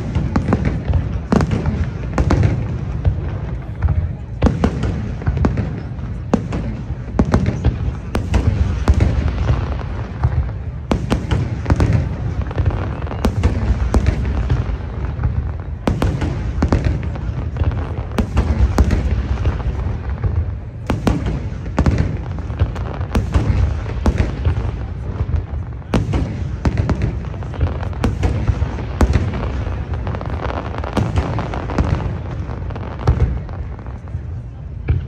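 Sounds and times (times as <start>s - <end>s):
fireworks cracking and popping: 0.0s - 35.0s.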